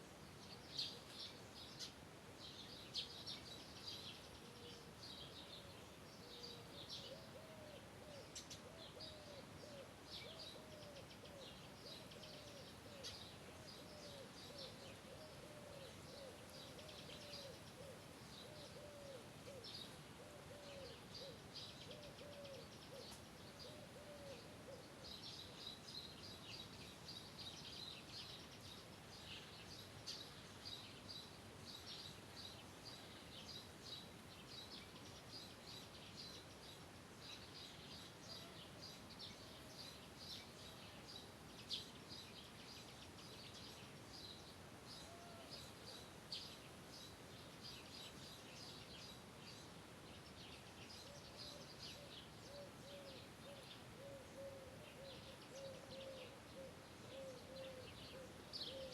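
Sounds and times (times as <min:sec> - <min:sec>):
small birds chirping: 0:00.0 - 0:58.9
steady low hiss: 0:00.0 - 0:58.9.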